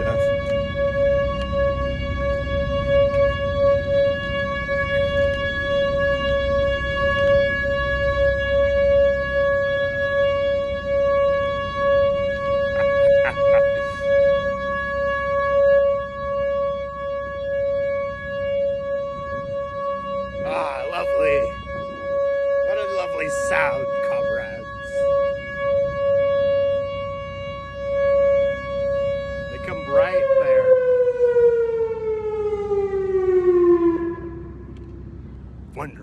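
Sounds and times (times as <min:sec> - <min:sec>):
warning siren steady tone: 0:00.0 - 0:36.0.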